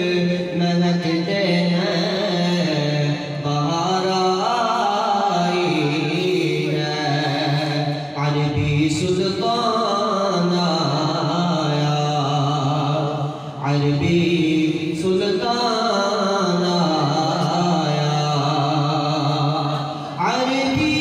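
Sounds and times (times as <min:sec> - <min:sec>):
man singing through microphone: 0:00.0 - 0:21.0.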